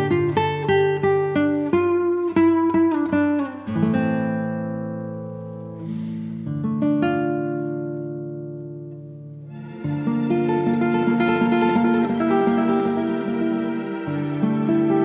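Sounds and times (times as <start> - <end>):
guitar playing: 0.0 - 15.0.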